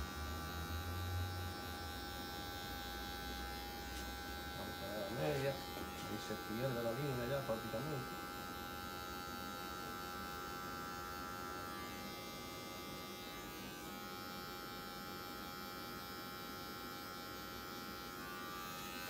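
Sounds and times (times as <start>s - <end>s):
electric hair clippers buzzing: 0.0s - 19.0s.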